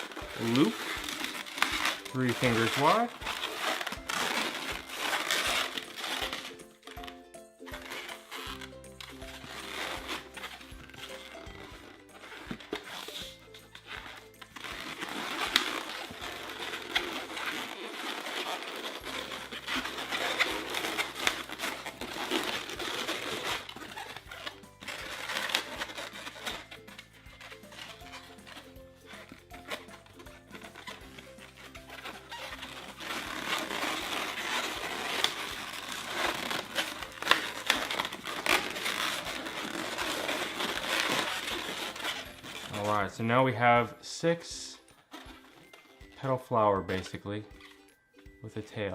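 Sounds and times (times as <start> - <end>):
balloon rubbing and squeaking: 0.0 - 48.9.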